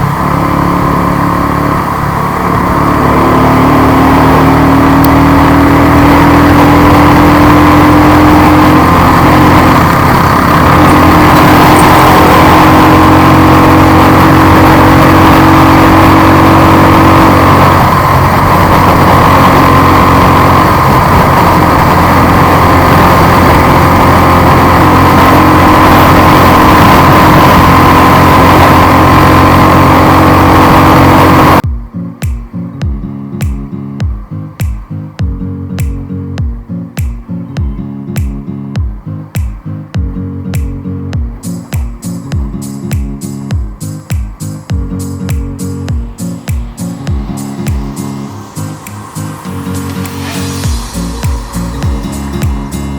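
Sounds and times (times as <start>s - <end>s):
motorcycle engine cruising: 0.0s - 52.9s
wind and road noise: 0.0s - 52.9s.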